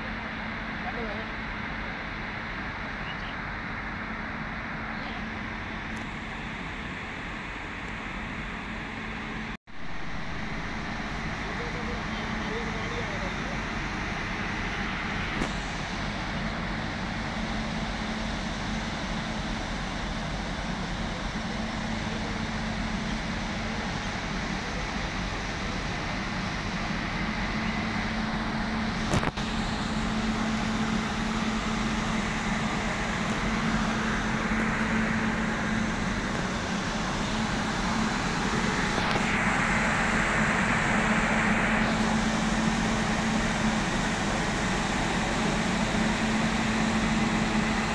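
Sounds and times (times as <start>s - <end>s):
locomotive machinery hum and whir: 0.0s - 47.9s.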